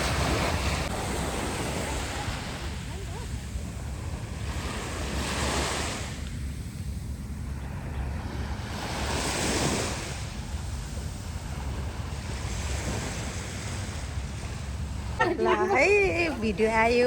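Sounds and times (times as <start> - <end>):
sea waves washing on beach: 0.0 - 17.0
wind rumble on microphone: 0.0 - 17.0.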